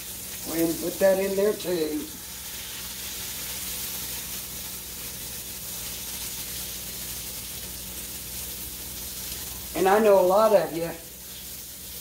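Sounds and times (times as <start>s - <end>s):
steaks sizzling in hot oil: 0.0s - 12.0s.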